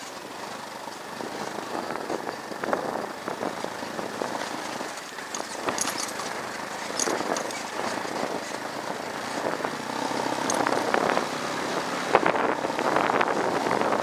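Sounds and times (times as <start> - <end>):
bike rattling over bumps: 0.0 - 14.0
motorcycle engine: 0.0 - 14.0.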